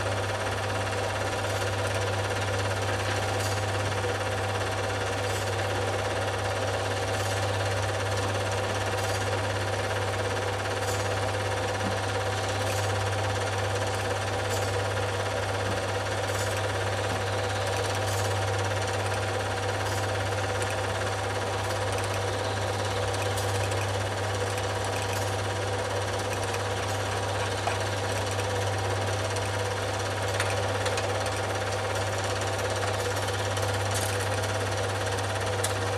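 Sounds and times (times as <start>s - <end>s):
film projector rattling: 0.0s - 35.9s.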